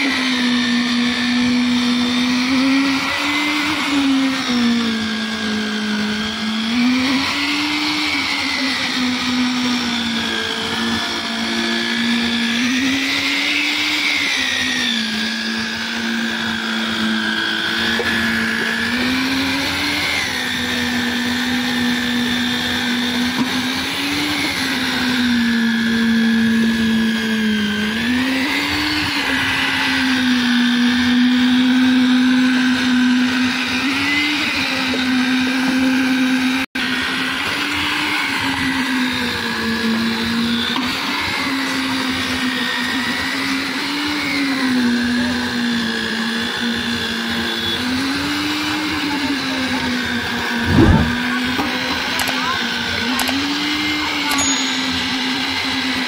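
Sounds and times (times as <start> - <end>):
concrete vibrator motor whining: 0.0 - 56.0.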